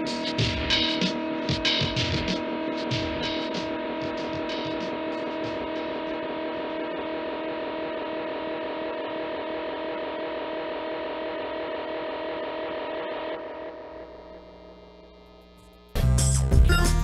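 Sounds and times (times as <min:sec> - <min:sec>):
distorted guitar drone: 0:00.0 - 0:17.0.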